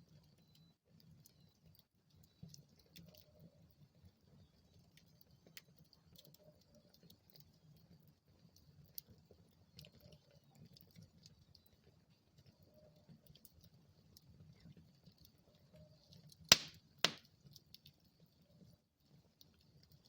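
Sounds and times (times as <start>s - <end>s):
wood fire crackling: 0.9s - 20.0s.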